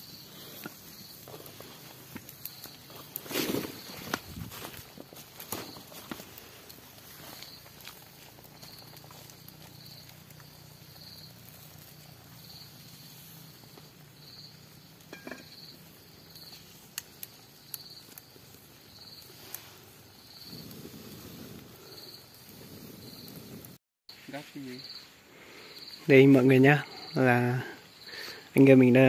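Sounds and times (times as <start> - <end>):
insect chirping: 0.0 - 29.0.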